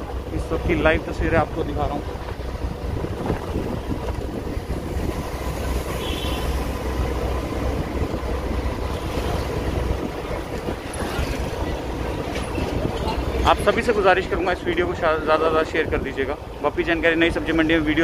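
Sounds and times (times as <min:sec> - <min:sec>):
wind rumble on microphone: 0:00.0 - 0:16.6
motorcycle and scooter traffic: 0:00.0 - 0:18.0.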